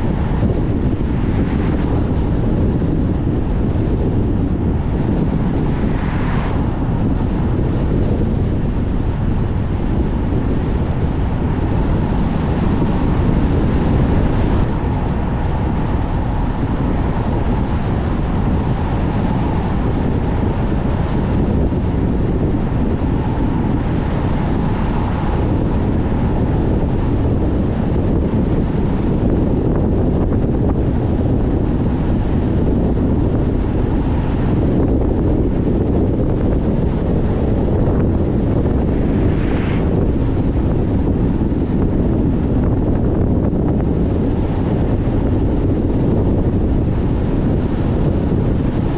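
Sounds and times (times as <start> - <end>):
car road noise: 0.0 - 48.9
wind buffeting microphone: 0.0 - 48.9.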